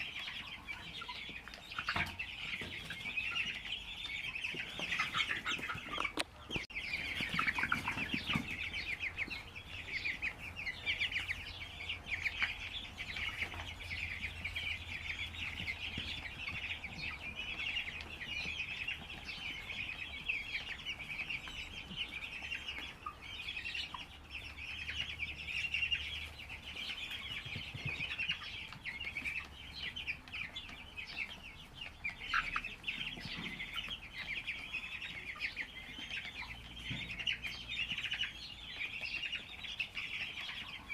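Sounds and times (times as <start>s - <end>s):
chickens chirping and clucking: 0.0s - 40.9s.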